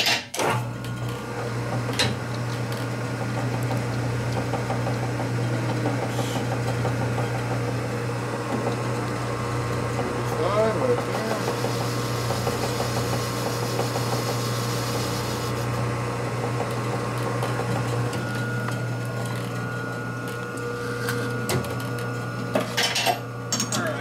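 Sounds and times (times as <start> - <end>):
lathe motor hum: 0.6 - 24.0.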